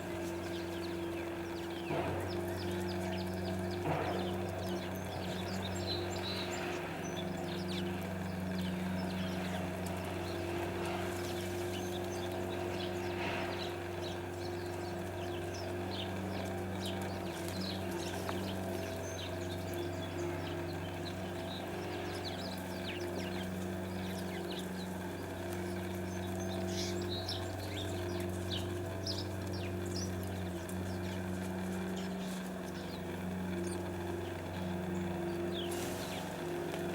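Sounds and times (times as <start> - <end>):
low mechanical hum: 0.0 - 36.9
small birds chirping: 0.0 - 36.9.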